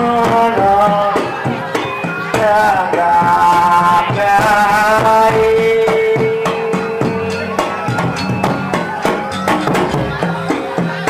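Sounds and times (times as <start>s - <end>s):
gamelan music: 0.0s - 11.0s
hand drum strokes: 0.0s - 11.0s.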